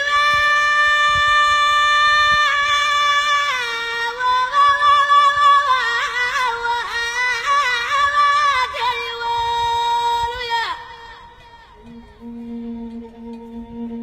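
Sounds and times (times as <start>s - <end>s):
solo voice singing unaccompanied: 0.0s - 14.0s.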